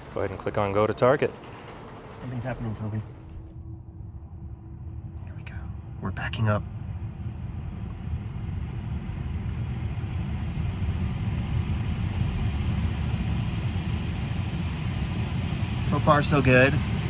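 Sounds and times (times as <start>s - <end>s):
low rumble of car rolling: 0.0s - 17.0s.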